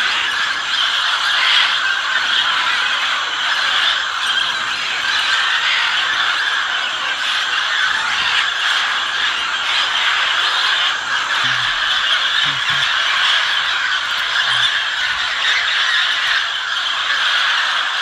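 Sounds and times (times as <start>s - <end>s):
macaws squawking: 0.0s - 18.0s.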